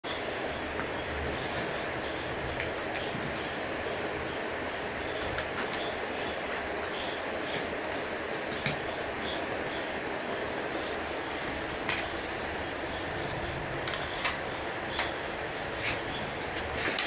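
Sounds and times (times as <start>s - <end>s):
steady hissing noise: 0.1s - 17.0s.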